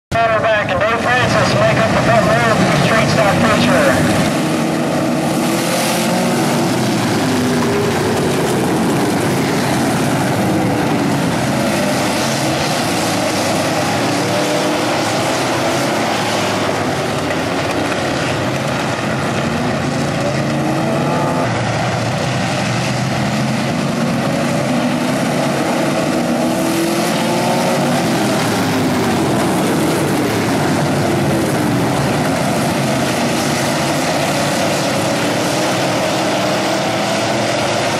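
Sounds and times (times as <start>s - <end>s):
race car engines revving: 0.1s - 37.9s.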